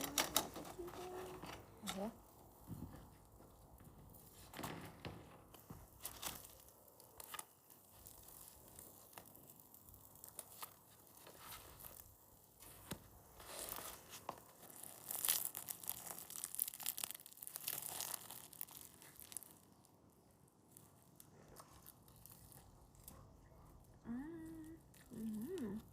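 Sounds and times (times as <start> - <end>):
tearing and rustling handling: 0.0 - 4.9, 5.5 - 19.9, 20.7 - 23.8.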